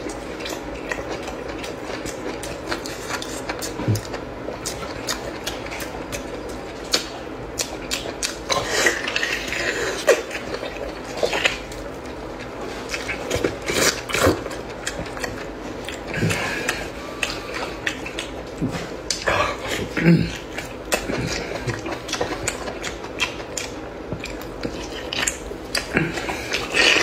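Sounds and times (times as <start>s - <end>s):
person chewing and gnawing: 0.0s - 27.0s.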